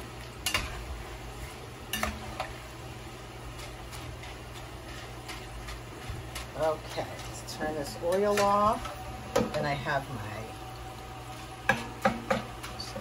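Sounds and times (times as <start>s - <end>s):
potatoes sizzling in hot fat: 0.0s - 13.0s.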